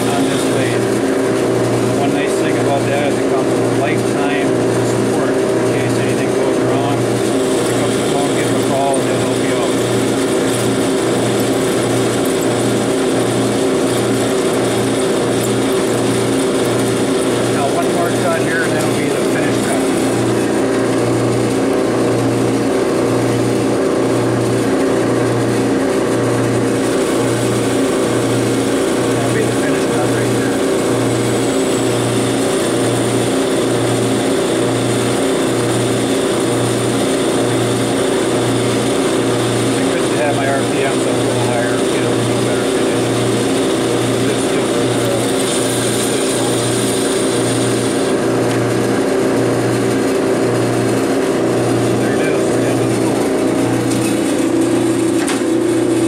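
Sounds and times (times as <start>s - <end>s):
lathe motor humming: 0.0s - 56.0s.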